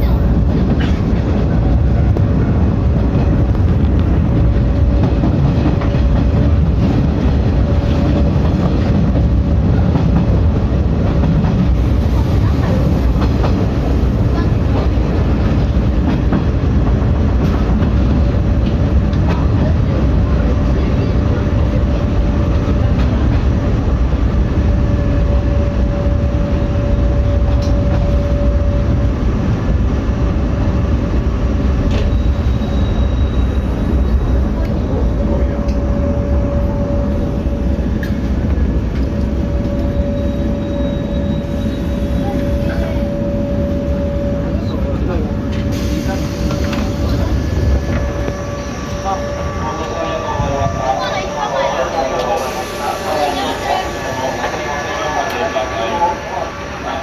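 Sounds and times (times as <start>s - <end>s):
electric train rumble: 0.0s - 57.0s.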